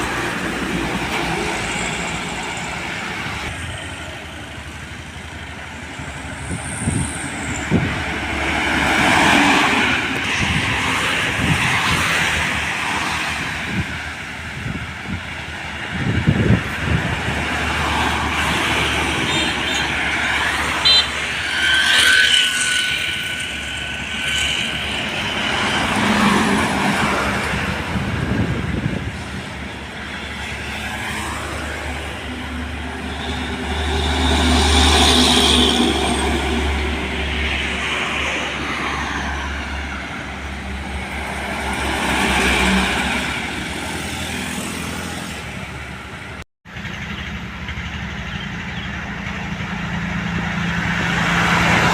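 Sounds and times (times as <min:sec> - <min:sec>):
vehicles passing: 0:00.0 - 0:51.9.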